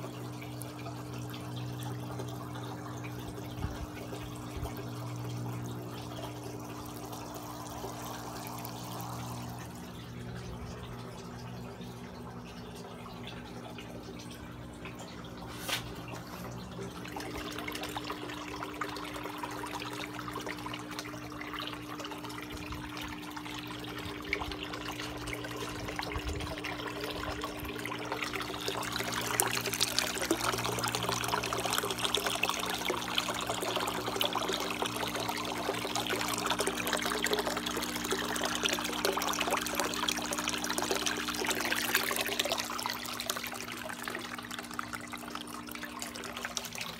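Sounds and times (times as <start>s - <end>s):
aquarium water trickling: 0.0s - 46.9s
low pump hum: 0.0s - 46.9s.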